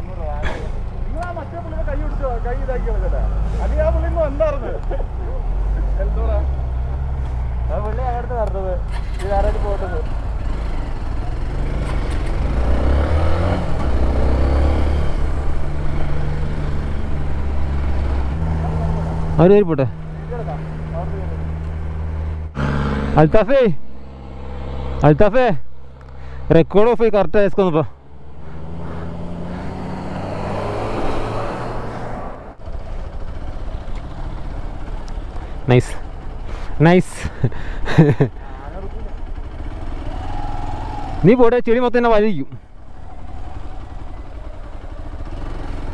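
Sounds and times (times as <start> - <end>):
vehicle engine rumbling and revving: 0.0 - 45.9.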